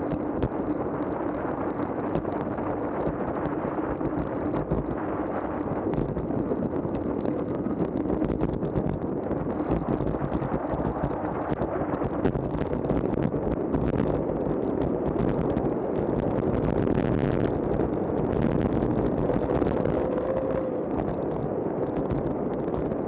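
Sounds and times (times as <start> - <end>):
faint clicks from the road: 0.0 - 23.0
wind buffeting microphone: 0.0 - 23.0.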